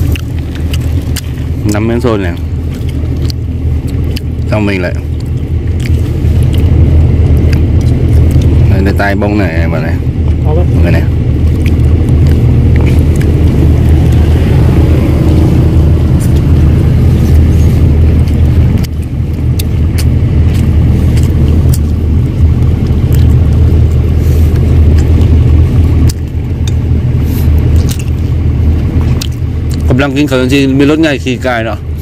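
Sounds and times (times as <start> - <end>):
engine low rumble: 0.0 - 32.0.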